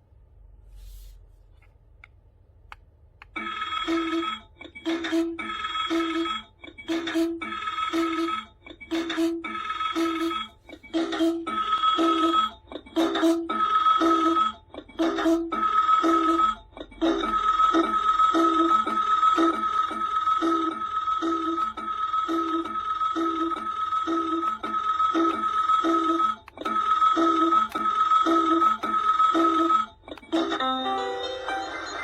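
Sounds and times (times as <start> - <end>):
alarm clock beeping ringtone: 3.4 - 32.0.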